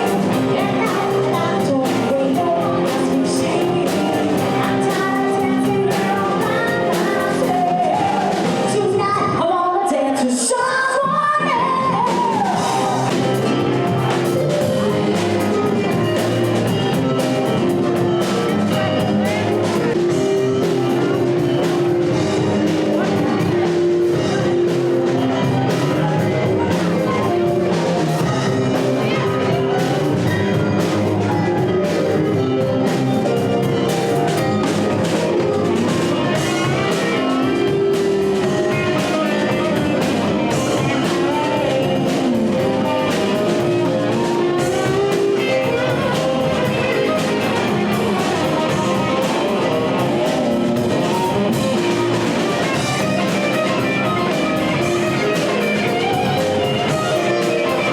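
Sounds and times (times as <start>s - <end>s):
rock band playing: 0.0s - 57.9s.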